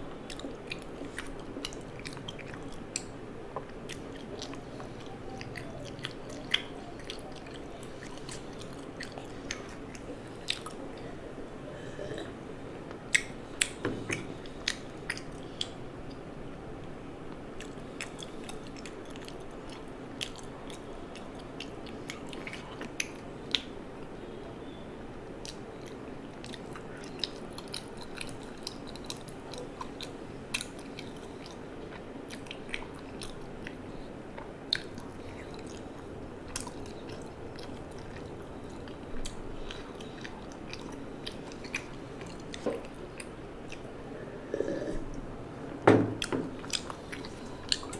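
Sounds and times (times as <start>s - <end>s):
background hum: 0.0s - 47.9s
chewing crunchy food: 0.1s - 11.1s, 13.1s - 16.2s, 17.6s - 23.8s, 25.4s - 45.1s, 46.2s - 47.9s.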